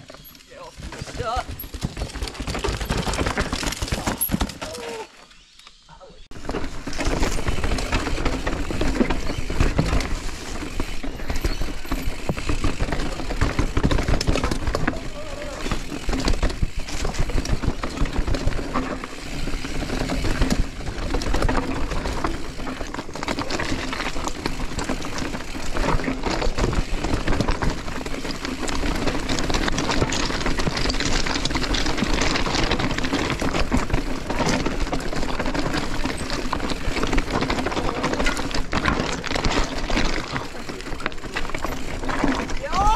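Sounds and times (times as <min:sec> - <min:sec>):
bike tyres rumbling over dirt: 0:00.0 - 0:05.4, 0:06.3 - 0:42.9.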